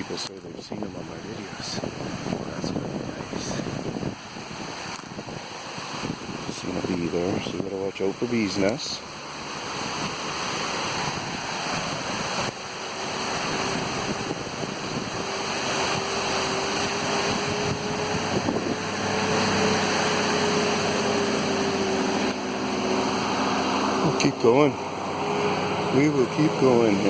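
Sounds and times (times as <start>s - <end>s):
waterfall roaring: 0.0s - 27.0s
steady hum: 0.6s - 27.0s.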